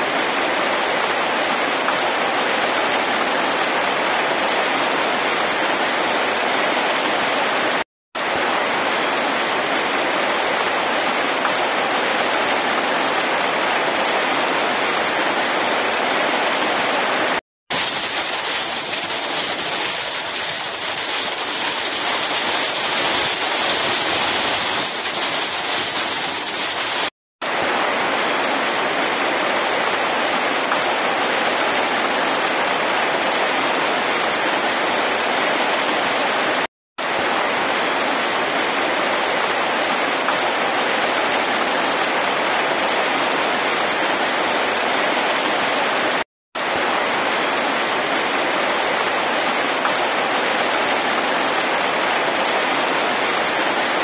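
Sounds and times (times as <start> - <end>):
heavy rain on pavement and leaves: 0.0 - 54.0.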